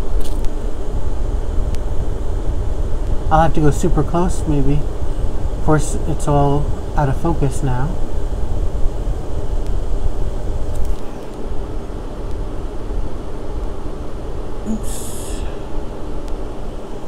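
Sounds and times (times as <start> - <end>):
air conditioner rumbling: 0.0 - 17.0.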